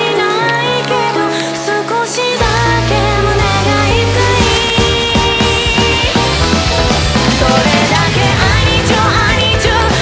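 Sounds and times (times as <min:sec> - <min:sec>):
melodic music with sustained bass: 0:00.5 - 0:10.0.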